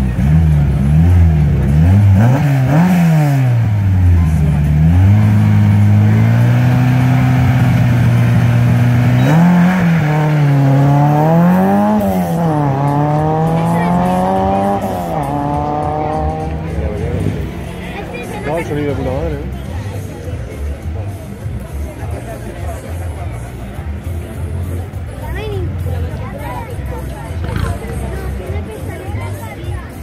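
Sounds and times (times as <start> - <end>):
rally car engine revving: 0.0 - 22.0, 25.8 - 28.9.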